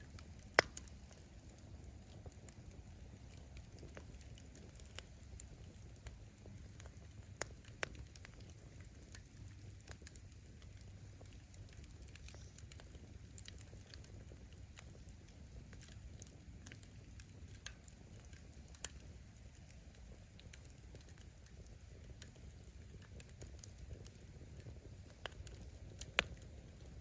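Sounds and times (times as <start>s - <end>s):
fire burning with low rush: 0.0s - 27.0s
firewood crackling and popping: 0.0s - 27.0s.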